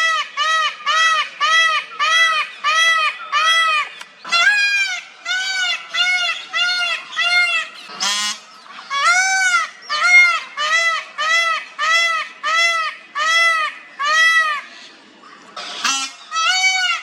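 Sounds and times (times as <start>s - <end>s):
peacock calling: 0.0s - 17.0s.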